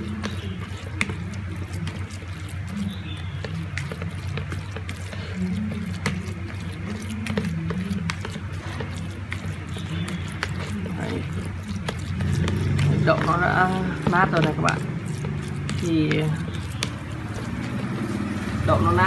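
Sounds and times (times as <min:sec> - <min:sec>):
spatula mashing tofu in bowl: 0:00.0 - 0:19.0.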